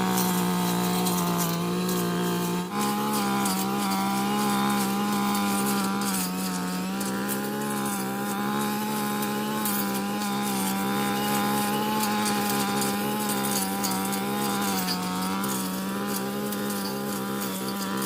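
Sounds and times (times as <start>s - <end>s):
two-stroke engine at high revs: 0.0s - 18.0s.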